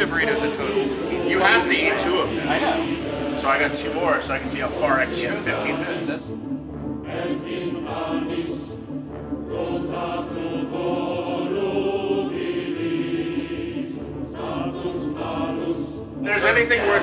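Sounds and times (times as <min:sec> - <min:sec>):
choir singing long held notes: 0:00.0 - 0:17.0.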